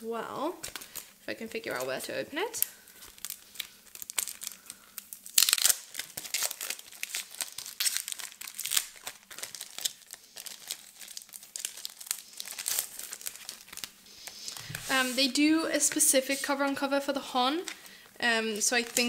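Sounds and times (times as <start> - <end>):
plastic crinkling and rustling: 0.6 - 19.0.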